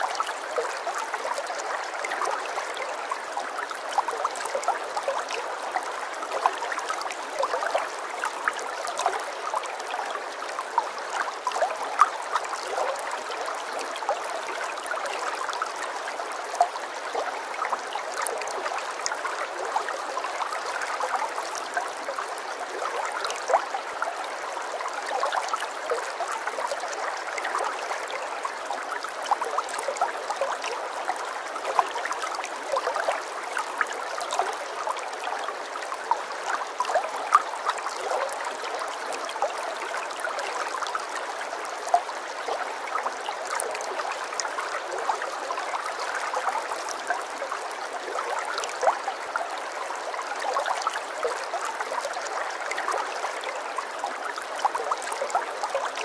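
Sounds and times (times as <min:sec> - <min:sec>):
water trickling and babbling: 0:00.0 - 0:56.0.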